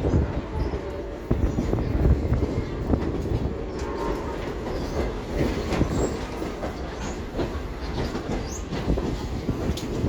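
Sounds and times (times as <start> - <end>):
train car rumbling on track: 0.0 - 10.0
wheels clacking on rails: 0.0 - 10.0.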